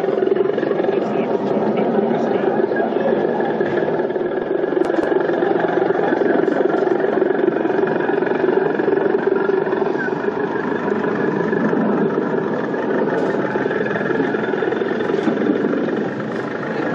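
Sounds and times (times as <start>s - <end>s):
engine idling: 0.0s - 16.9s.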